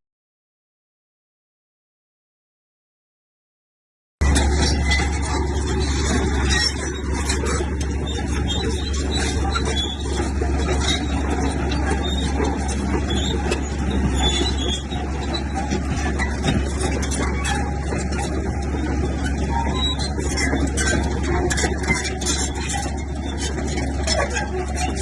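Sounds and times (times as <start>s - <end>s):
diesel bulldozer engine drone: 4.2s - 25.0s
metallic clanks and squeaks: 4.2s - 25.0s.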